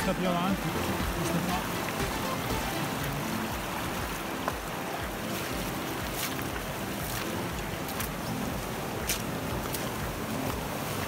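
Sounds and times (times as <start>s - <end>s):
footsteps on gravel: 0.0s - 11.0s
river flowing over stones: 0.0s - 11.0s.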